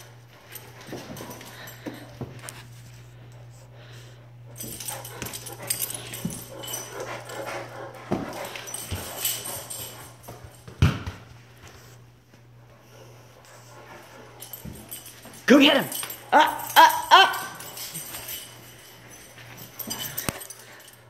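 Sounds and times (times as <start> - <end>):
dog paws clicking on floors: 0.0 - 21.0
steady low hum: 0.0 - 21.0.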